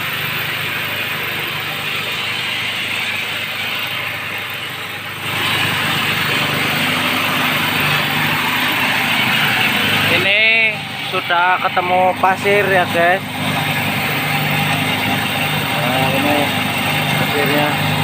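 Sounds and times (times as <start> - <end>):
drilling rig running: 0.0 - 18.0.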